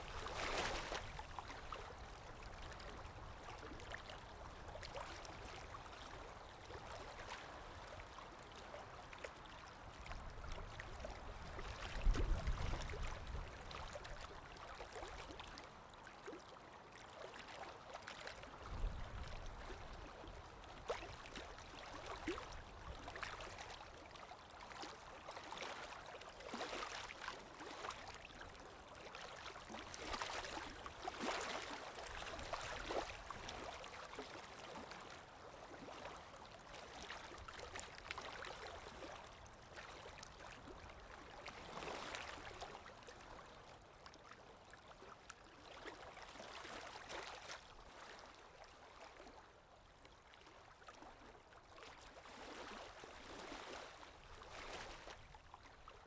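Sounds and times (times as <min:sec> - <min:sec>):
stream trickling and gurgling: 0:00.0 - 0:56.0.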